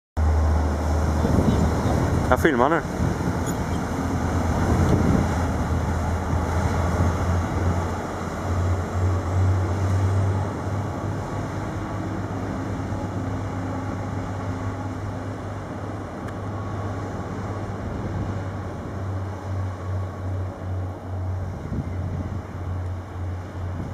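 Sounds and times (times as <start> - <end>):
ferry engines droning: 0.2 - 23.9
water rushing: 0.2 - 23.9.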